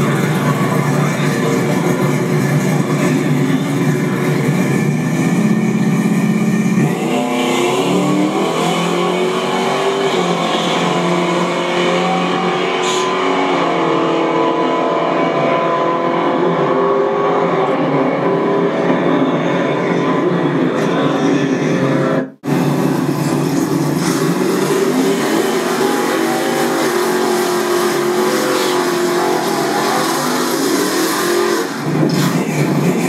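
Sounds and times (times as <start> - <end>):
drag racing car engines accelerating: 0.0 - 33.0.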